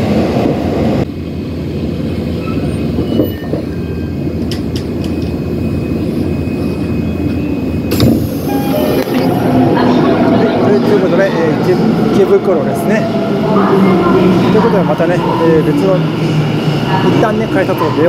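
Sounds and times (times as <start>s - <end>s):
standing train low hum: 0.0s - 18.0s
subway train rumbling to a stop: 0.0s - 18.0s.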